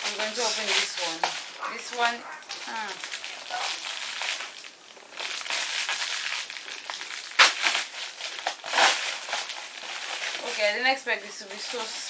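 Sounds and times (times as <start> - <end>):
plastic bag crinkling: 0.0 - 12.0
plastic bag ripping: 0.0 - 12.0.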